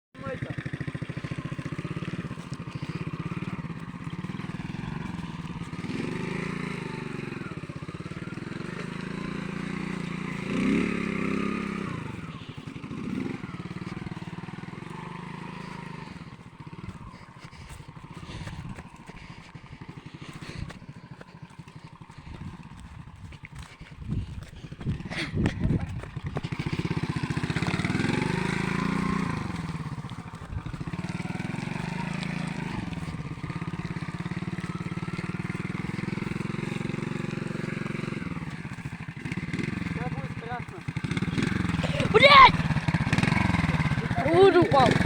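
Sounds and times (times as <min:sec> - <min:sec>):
moped engine revving: 0:00.0 - 0:45.0.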